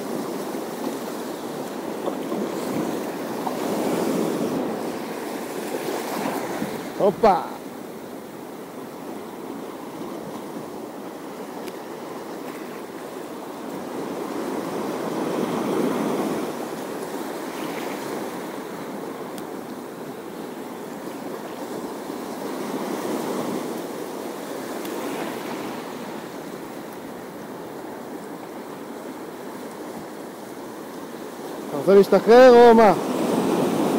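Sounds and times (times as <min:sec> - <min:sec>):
sea waves washing in: 0:00.0 - 0:33.9
wind: 0:00.0 - 0:33.9.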